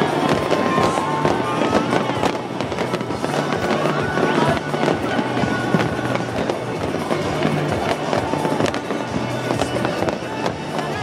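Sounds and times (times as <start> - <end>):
fireworks bangs and crackles: 0.0 - 11.0
fireworks whistling: 0.0 - 11.0
music with bass line: 0.0 - 11.0.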